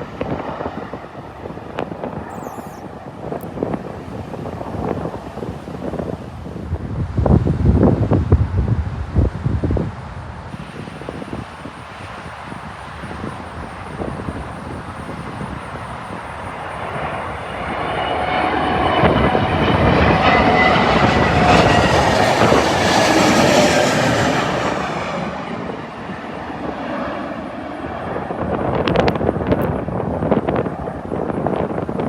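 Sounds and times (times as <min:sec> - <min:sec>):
jet flying overhead: 0:00.0 - 0:32.0
wind buffeting microphone: 0:00.0 - 0:32.0.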